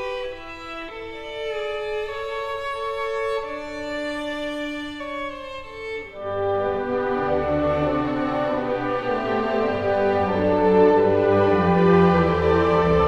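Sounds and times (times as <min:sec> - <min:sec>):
slow bowed string melody: 0:00.0 - 0:13.0.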